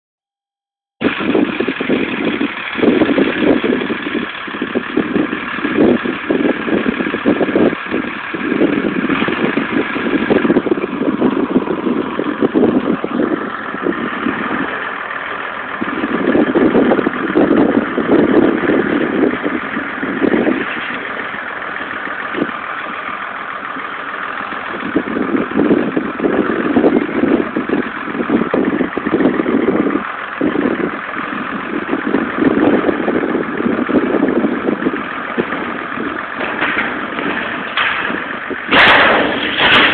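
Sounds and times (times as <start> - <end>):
tractor engine running: 1.0 - 39.9.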